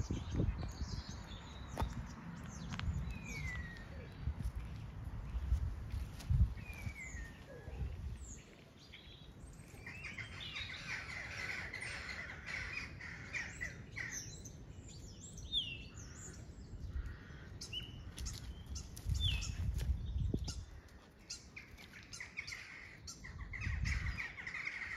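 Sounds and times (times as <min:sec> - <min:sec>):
wind rumble on microphone: 0:00.0 - 0:12.8, 0:14.7 - 0:21.0, 0:23.2 - 0:24.9
songbirds singing: 0:00.0 - 0:24.9.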